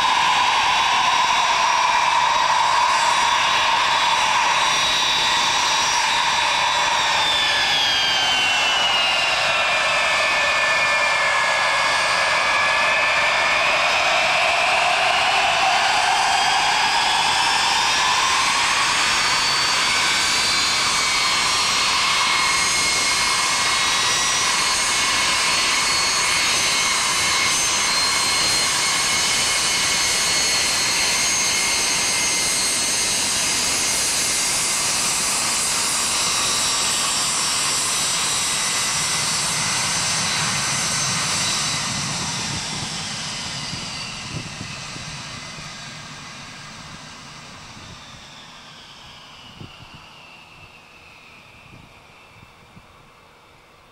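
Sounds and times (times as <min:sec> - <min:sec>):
jet engines roaring: 0:00.0 - 0:53.9.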